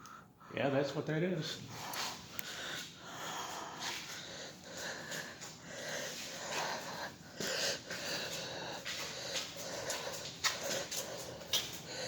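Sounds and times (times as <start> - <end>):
person breathing close: 1.5 - 12.0.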